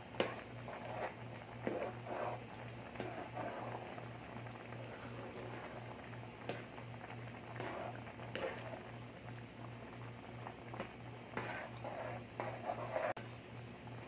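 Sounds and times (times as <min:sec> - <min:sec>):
cream sauce bubbling in a pan: 0:00.0 - 0:14.0.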